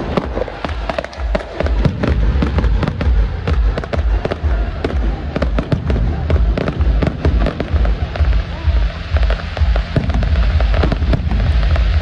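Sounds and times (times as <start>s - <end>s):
fireworks bangs and crackles: 0.0s - 12.0s
deep rumble of booms: 1.7s - 12.0s.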